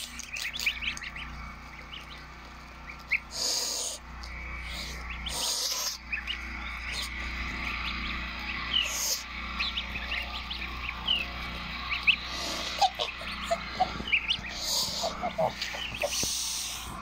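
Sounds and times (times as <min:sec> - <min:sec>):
goslings peeping: 0:00.0 - 0:17.0.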